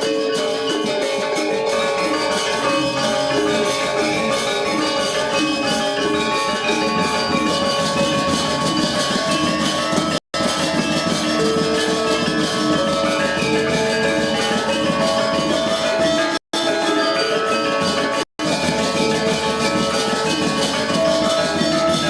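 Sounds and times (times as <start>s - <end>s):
bronze metallophones ringing: 0.0s - 22.0s.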